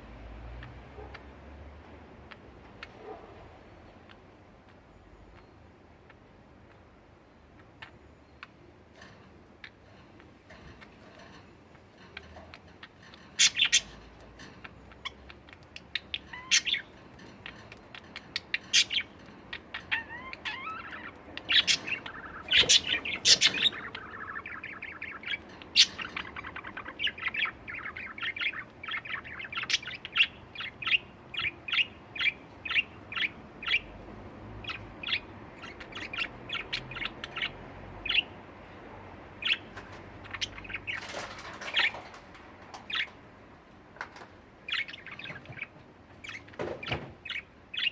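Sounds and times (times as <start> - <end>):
budgerigars chirping: 2.2 - 3.0, 3.9 - 38.6, 39.3 - 43.2, 44.6 - 47.9.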